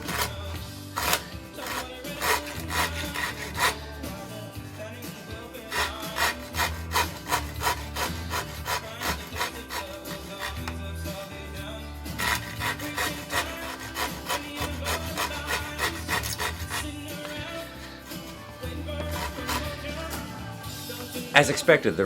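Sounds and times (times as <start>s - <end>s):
rasp scraping wood: 0.0s - 21.2s.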